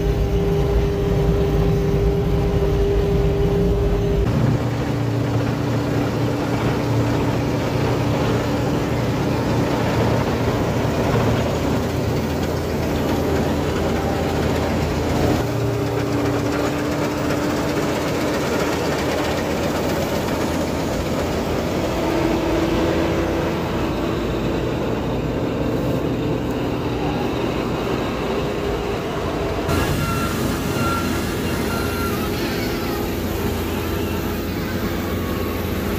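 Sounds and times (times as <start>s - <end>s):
combine harvester running: 0.0s - 35.9s.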